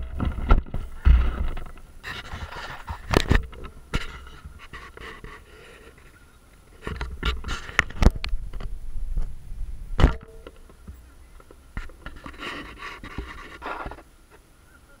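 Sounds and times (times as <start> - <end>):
rough hissing noise: 0.0 - 15.0.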